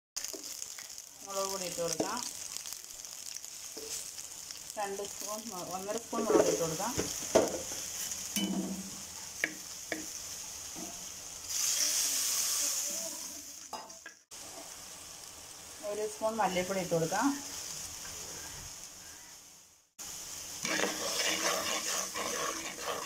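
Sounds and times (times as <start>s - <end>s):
spices sizzling in hot oil: 0.2s - 23.0s.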